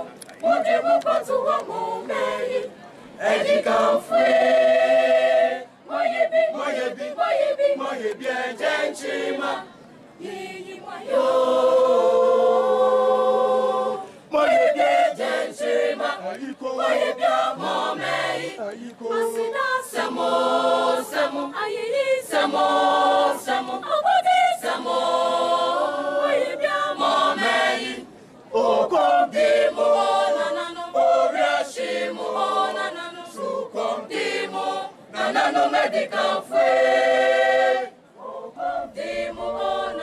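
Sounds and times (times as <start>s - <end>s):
choir singing unaccompanied: 0.0s - 40.0s.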